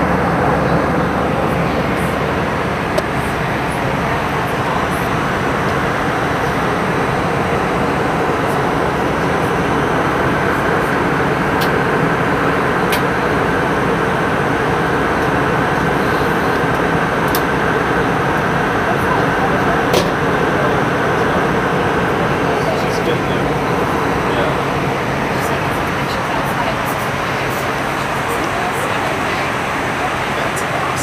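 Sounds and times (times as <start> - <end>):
jet cabin engine and airflow noise: 0.0 - 31.0.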